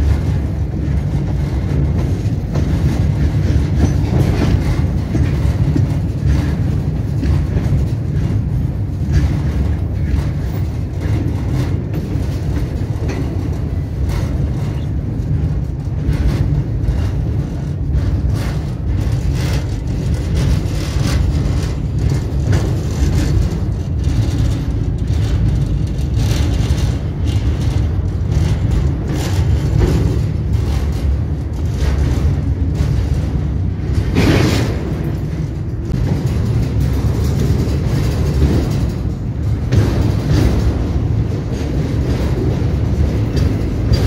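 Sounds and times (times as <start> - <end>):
running gear clicks and knocks: 0.0 - 44.0
train wheels rumbling on track: 0.0 - 44.0.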